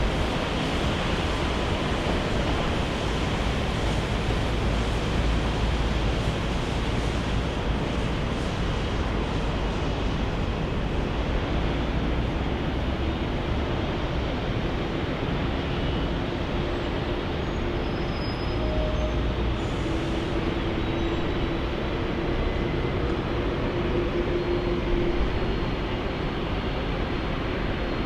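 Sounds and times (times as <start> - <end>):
jet engines running: 0.0 - 18.1, 19.2 - 28.0.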